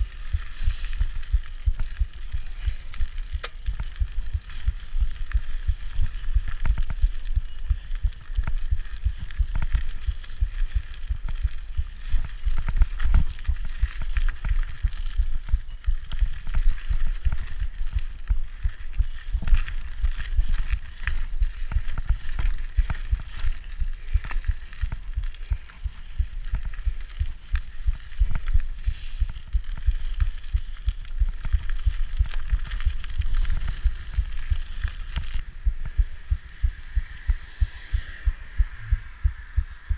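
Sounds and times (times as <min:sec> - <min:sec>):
bike frame rattling: 0:00.0 - 0:35.6
bike tyres crunching on gravel: 0:00.0 - 0:39.9.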